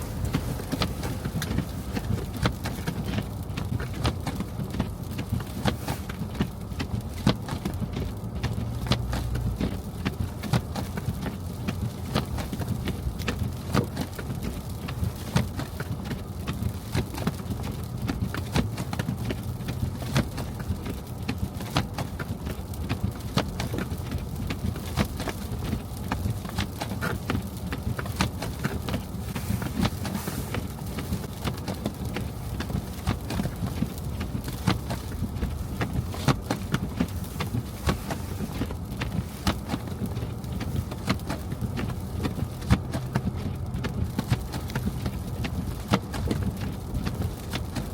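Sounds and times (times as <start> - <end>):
car driving low rumble: 0.0 - 47.9.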